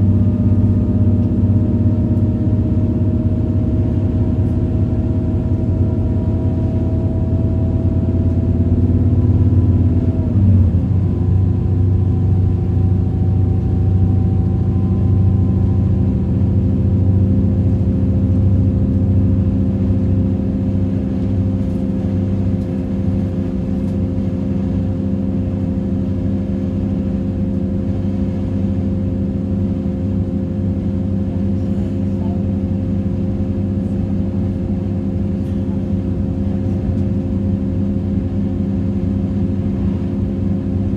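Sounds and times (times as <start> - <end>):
train engine drone: 0.0 - 40.9
train rumbling: 0.0 - 40.9.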